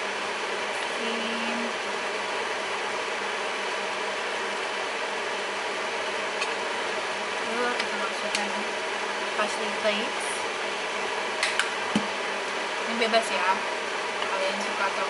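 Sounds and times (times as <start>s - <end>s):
kitchen fan whirring: 0.0s - 15.0s.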